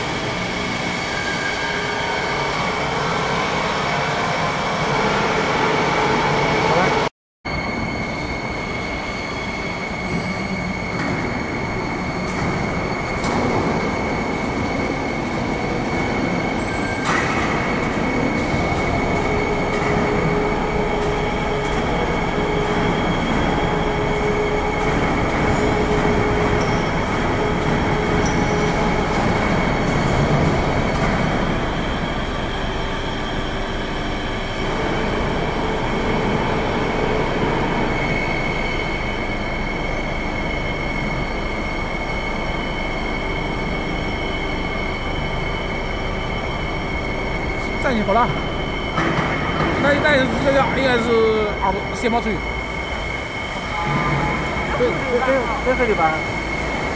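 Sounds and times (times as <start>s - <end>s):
hydraulic pump humming and whining: 0.0s - 56.9s.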